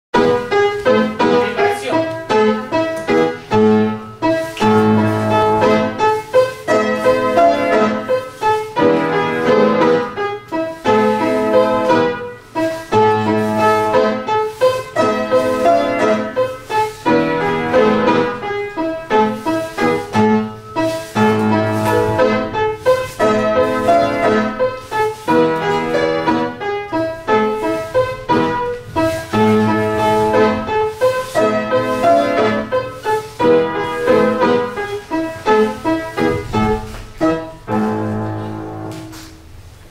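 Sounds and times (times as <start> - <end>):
classical piano accompaniment: 0.1 - 39.9.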